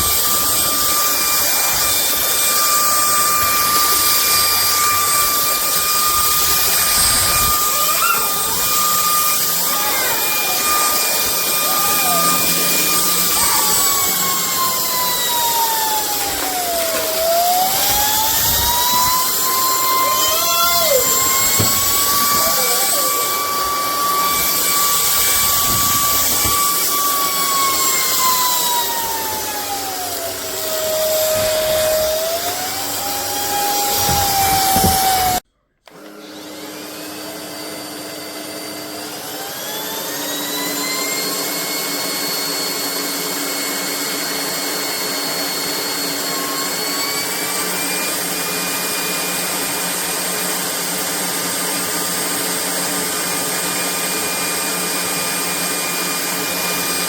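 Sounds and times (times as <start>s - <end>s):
stick vacuum motor whine: 0.0s - 57.0s.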